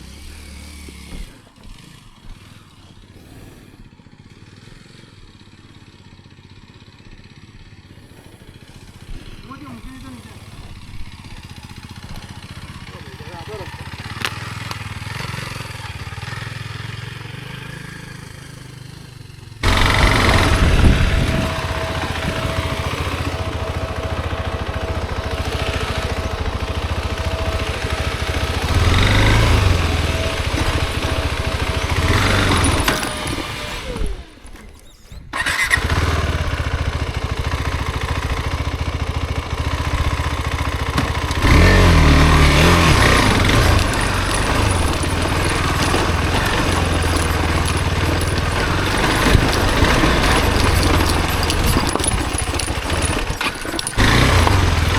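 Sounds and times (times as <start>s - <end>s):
off-road motorcycle engine revving: 0.0s - 54.9s.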